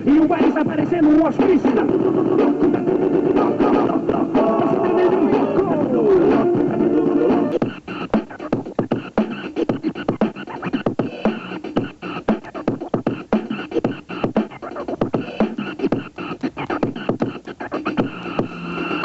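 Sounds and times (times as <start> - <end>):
beatboxing: 0.0 - 19.0.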